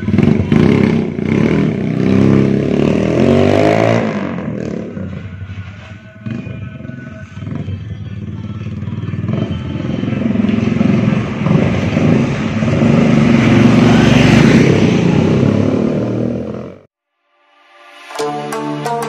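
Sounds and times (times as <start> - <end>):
small motorcycles passing by: 0.0 - 4.9, 6.2 - 16.8.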